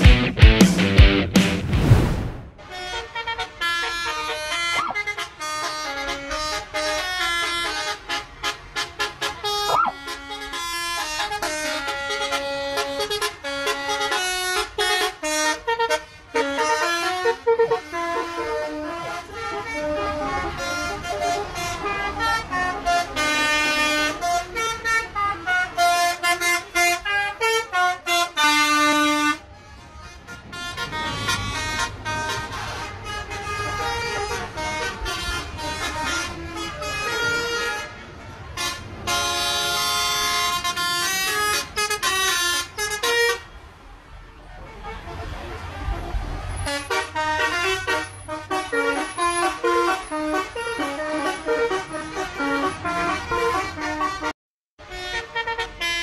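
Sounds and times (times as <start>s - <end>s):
multi-tone bus horns playing melodies: 2.6s - 56.0s.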